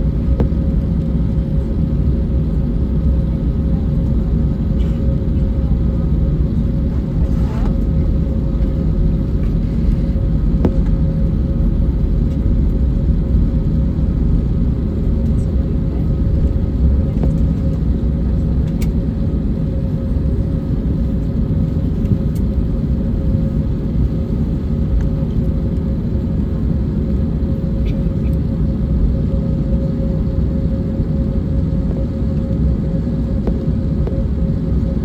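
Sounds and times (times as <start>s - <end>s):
aircraft cabin engine rumble: 0.0s - 35.0s.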